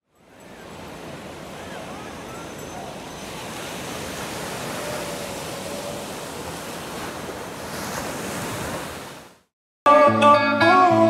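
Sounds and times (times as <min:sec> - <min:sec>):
surf washing up a beach: 0:00.2 - 0:09.5.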